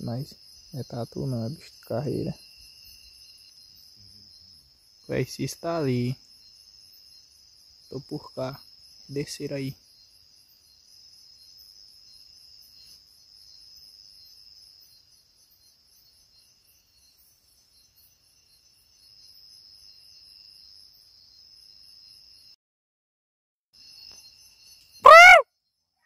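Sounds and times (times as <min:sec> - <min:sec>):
insects trilling: 0:00.0 - 0:22.5, 0:23.8 - 0:26.0
pulsing insect chirp: 0:00.0 - 0:22.6, 0:23.8 - 0:26.0.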